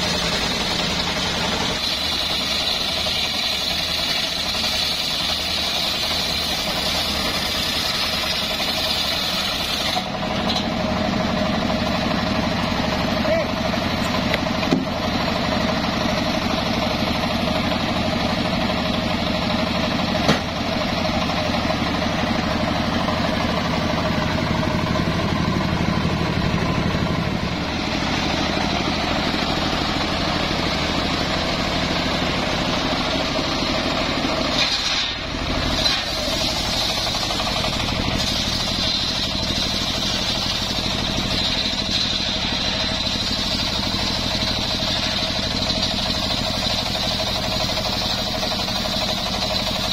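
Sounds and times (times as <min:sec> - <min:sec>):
circular sawmill cutting log: 0:00.0 - 0:49.9.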